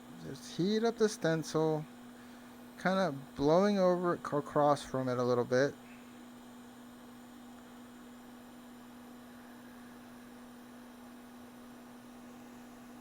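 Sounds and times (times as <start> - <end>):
hot air station hum: 0.0 - 13.0.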